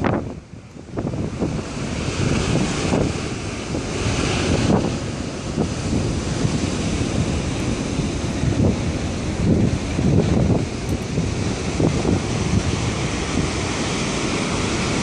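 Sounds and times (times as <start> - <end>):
rough sea surf: 0.0 - 15.0
wind buffeting microphone: 0.0 - 15.0.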